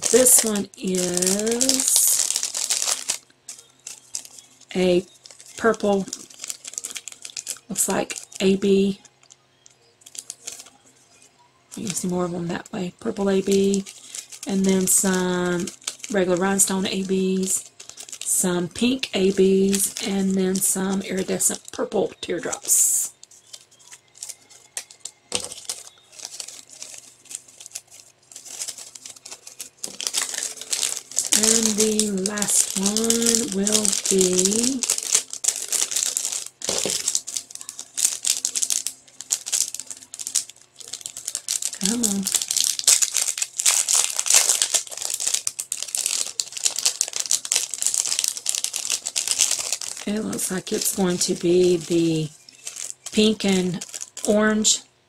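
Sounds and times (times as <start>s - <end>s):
plastic packets crinkling: 0.0s - 54.8s.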